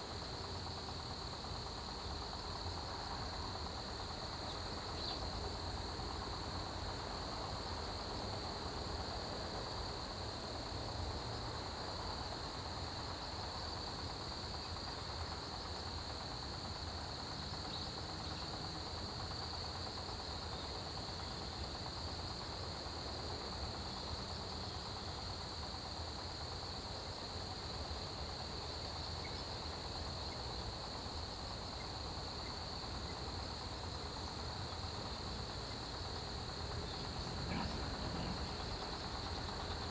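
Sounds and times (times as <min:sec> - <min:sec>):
insects trilling: 0:00.0 - 0:09.1, 0:11.0 - 0:39.9
crickets chirping: 0:00.0 - 0:39.9.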